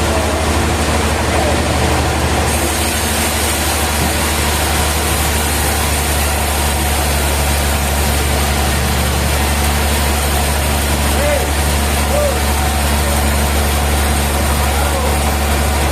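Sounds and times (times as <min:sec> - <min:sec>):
sawmill machinery humming: 0:00.0 - 0:15.9.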